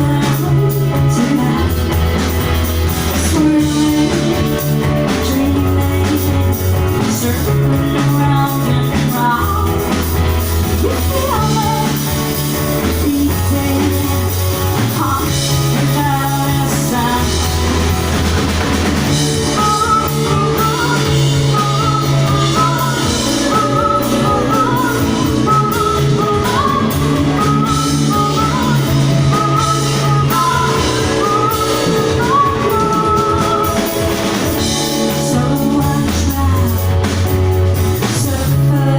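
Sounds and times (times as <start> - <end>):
person singing: 0.0 - 2.3, 3.0 - 18.4, 19.0 - 38.9
bass line: 0.0 - 38.9
drum kit: 0.0 - 38.9
electric guitar: 0.0 - 38.9.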